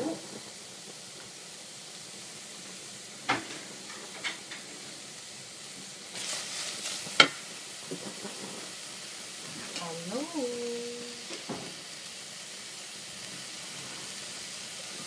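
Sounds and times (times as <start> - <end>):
vegetables sizzling in a saucepan: 0.0 - 15.0.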